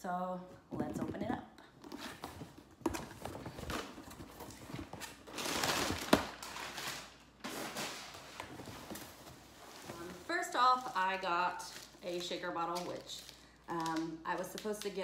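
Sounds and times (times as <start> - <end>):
packing paper rustling: 2.2 - 15.0.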